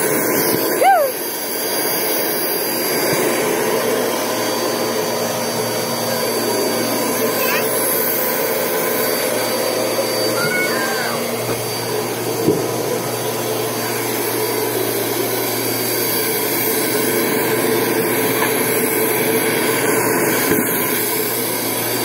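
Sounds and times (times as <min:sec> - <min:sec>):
vacuum cleaner motor humming: 0:00.0 - 0:22.0.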